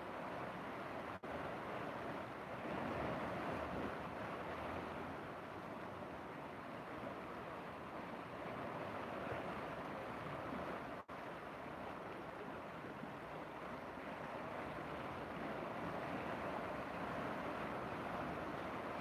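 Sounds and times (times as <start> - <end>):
river waves splashing against bank: 0.0 - 19.0.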